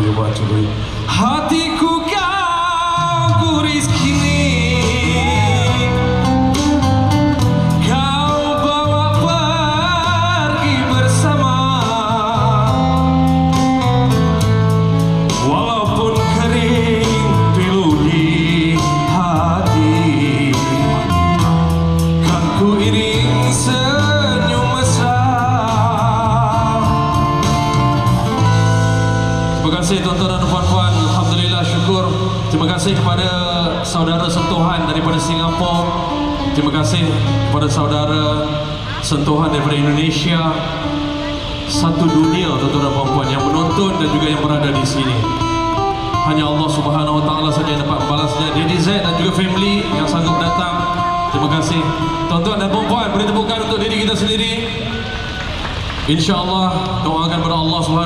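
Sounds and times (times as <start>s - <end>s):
man singing: 1.1s - 13.9s, 15.3s - 27.9s, 29.6s - 41.0s, 41.7s - 45.4s, 46.1s - 54.9s
live band playing: 3.0s - 57.8s.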